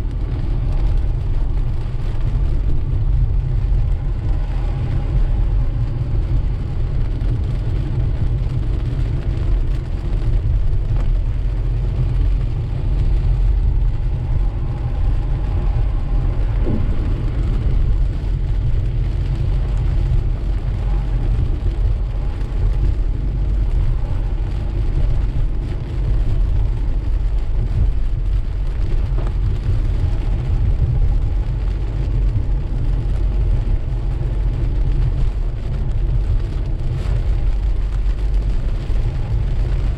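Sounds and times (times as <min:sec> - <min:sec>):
road and engine rumble: 0:00.0 - 0:39.9
tyres and rain hiss: 0:00.0 - 0:39.9.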